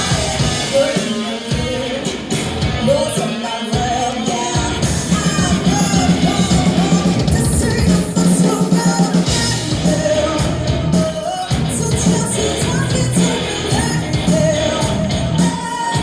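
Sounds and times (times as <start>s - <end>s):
live rock band: 0.0s - 16.0s
woman singing lead: 0.0s - 16.0s.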